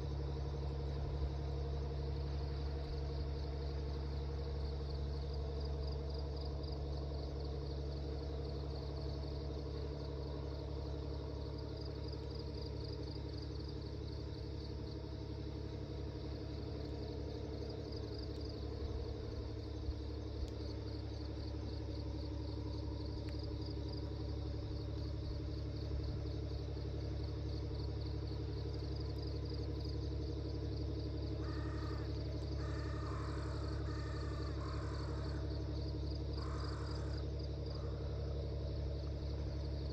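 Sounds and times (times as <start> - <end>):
insects trilling: 0.0 - 39.9
low hum: 0.0 - 39.9.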